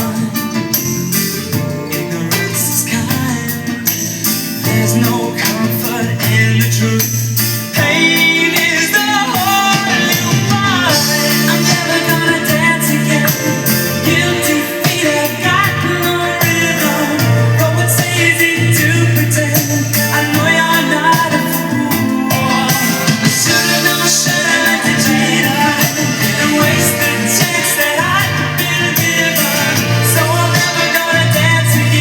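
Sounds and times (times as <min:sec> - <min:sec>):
pop song with singing: 0:00.0 - 0:32.0.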